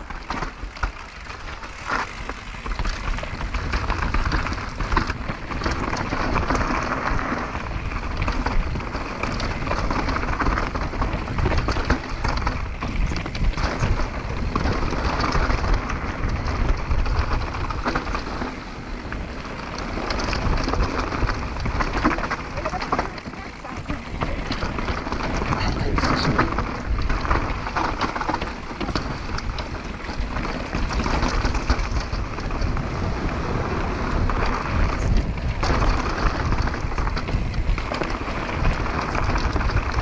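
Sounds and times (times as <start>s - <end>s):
bike clattering over bumps: 0.0s - 40.0s
tyres crunching over gravel: 0.0s - 40.0s
wind rumble on microphone: 0.0s - 40.0s.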